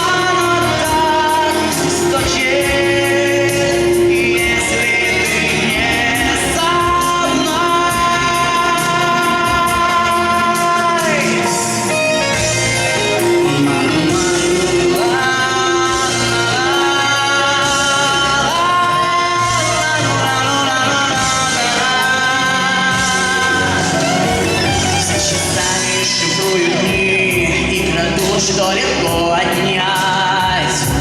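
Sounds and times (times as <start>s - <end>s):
male singer: 0.0s - 31.0s
pop accompaniment with beat: 0.0s - 31.0s.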